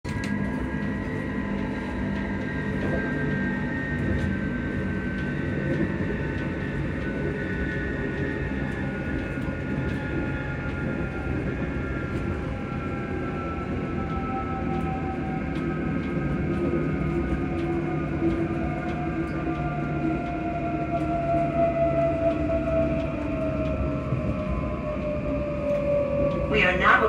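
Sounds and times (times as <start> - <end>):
wheels rumbling on rail: 0.0 - 27.0
electric train motor whine: 0.1 - 27.0.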